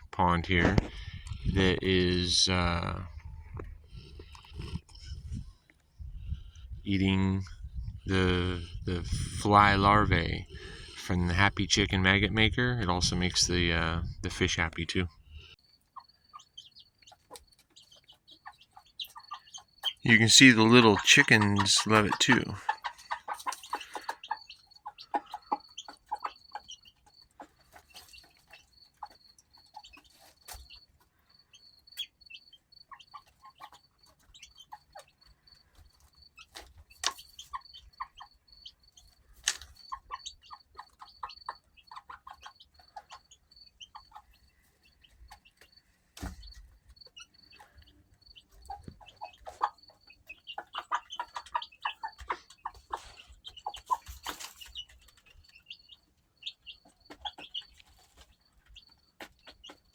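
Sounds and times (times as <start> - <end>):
chickens clucking softly: 0.0 - 59.9.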